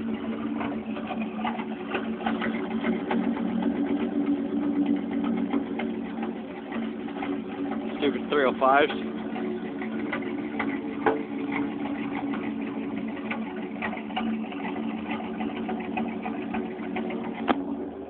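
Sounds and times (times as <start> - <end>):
engine idling roughly: 0.0 - 18.0
engine ticking: 0.0 - 18.0.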